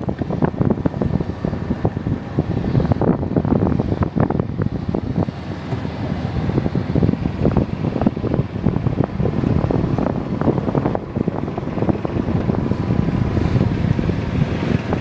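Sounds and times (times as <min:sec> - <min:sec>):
golf cart rumble: 0:00.0 - 0:15.0
wind buffeting microphone: 0:00.0 - 0:15.0.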